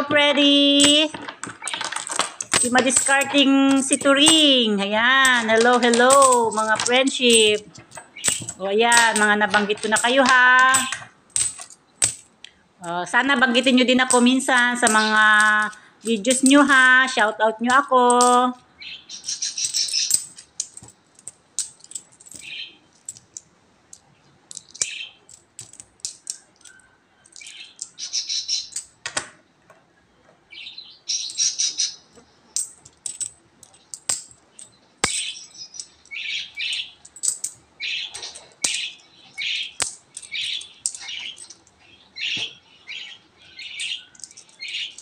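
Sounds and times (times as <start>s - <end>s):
coins clinking: 0.4s - 29.2s, 31.2s - 42.6s, 43.6s - 45.0s.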